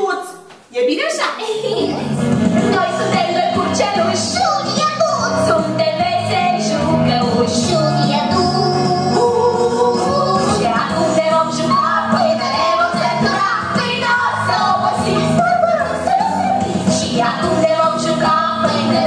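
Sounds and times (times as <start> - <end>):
instrumental accompaniment: 1.6 - 19.0.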